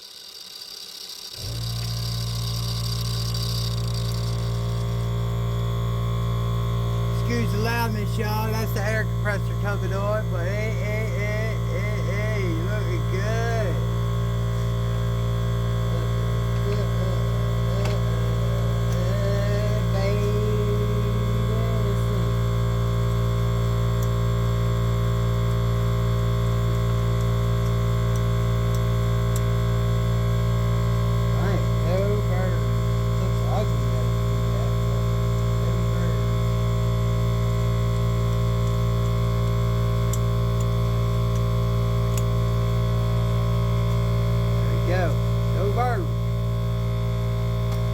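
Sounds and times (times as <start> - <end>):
air compressor motor hum: 0.0 - 47.9.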